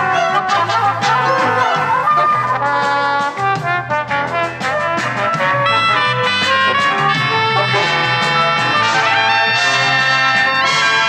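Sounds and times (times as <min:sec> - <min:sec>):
brass-toned melody with bass line: 0:00.0 - 0:11.0.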